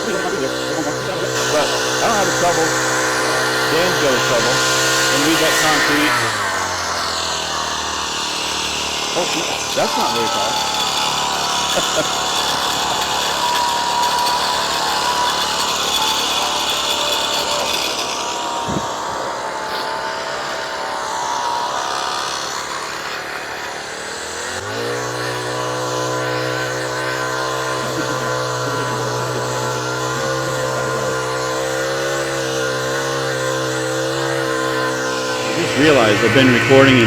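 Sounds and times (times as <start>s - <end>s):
small gas engine running: 0.0s - 37.0s.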